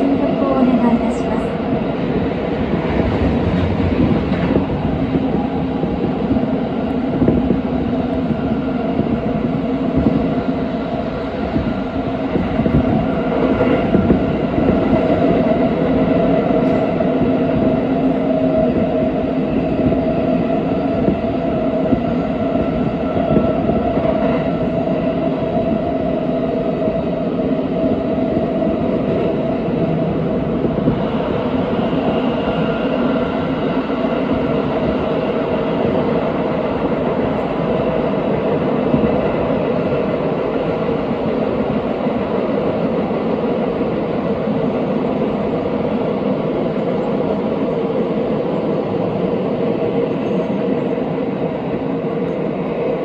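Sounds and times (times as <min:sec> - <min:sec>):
wheels running on rail: 0:00.0 - 0:53.0.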